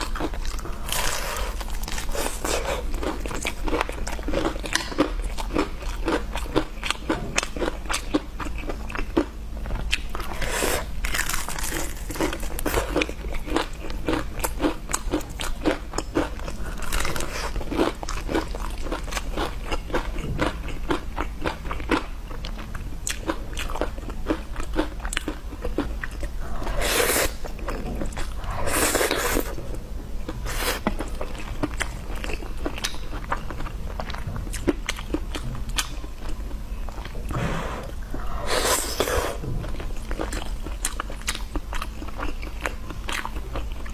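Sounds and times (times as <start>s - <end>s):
crunchy bites and chewing: 0.0s - 43.9s.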